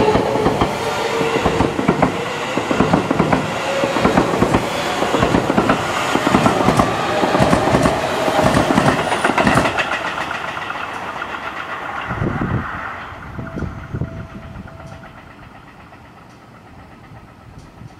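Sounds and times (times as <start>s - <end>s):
electric train passing: 0.0s - 17.9s
wheels clicking over rail joints: 0.0s - 17.9s.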